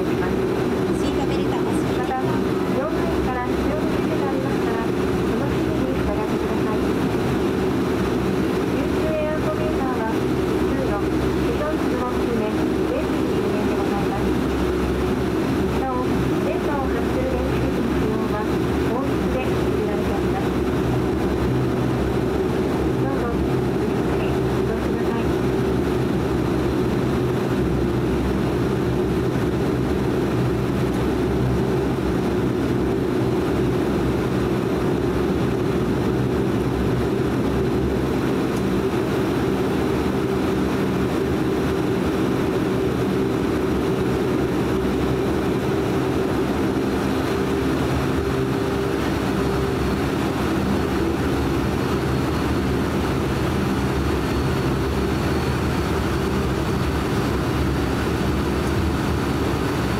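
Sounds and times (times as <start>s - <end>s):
propeller drone in aircraft cabin: 0.0s - 59.9s.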